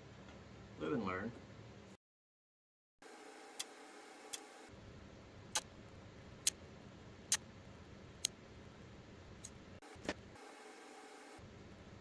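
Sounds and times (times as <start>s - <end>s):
faint background hum: 0.0s - 2.0s, 3.1s - 12.0s.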